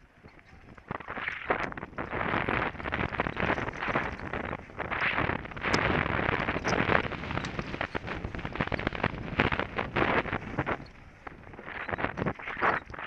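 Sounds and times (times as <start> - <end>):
wind rushing on microphone: 0.0 - 13.0
mountain bike rattling: 1.7 - 12.8.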